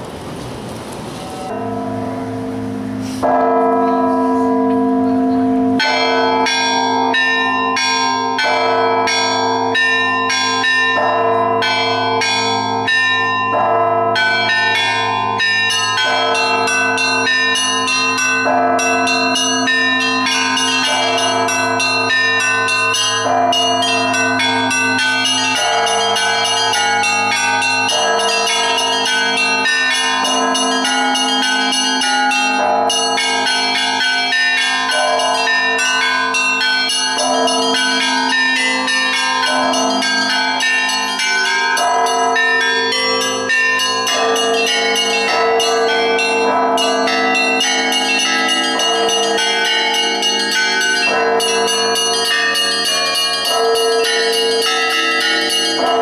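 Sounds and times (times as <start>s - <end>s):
heavy church bells striking: 1.2s - 56.0s
small bells chiming: 1.3s - 56.0s.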